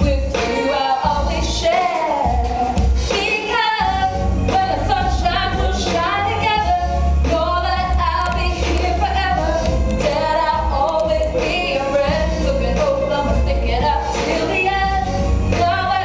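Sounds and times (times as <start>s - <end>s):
bass-heavy music: 0.0s - 16.0s
girls singing in unison: 0.0s - 16.0s.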